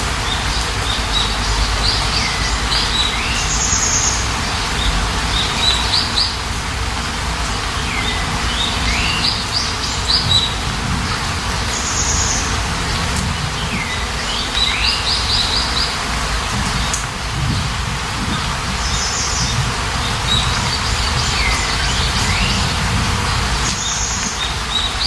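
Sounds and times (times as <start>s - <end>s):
rain hiss: 0.0s - 25.0s
songbirds chirping: 0.2s - 25.0s.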